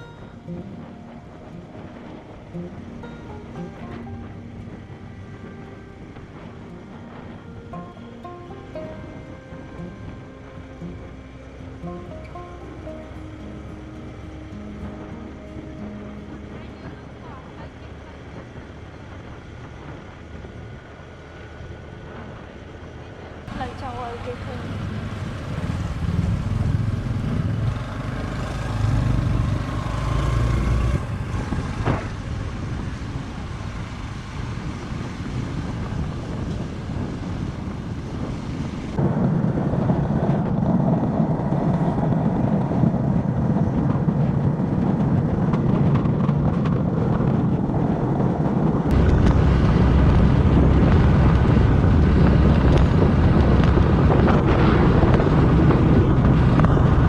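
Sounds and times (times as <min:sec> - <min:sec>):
motorcycle running: 0:00.0 - 0:57.0
wind buffeting microphone: 0:00.0 - 0:57.0.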